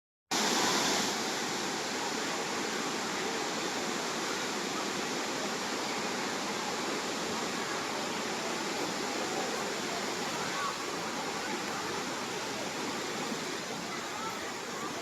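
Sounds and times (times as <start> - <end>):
waterfall rushing: 0.3 - 15.0.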